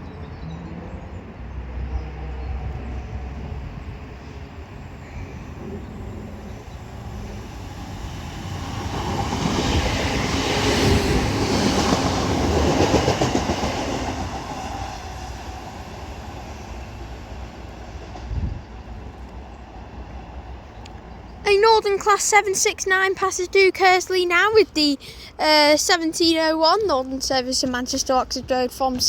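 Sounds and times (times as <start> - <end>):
train passing slowly: 0.0 - 29.0.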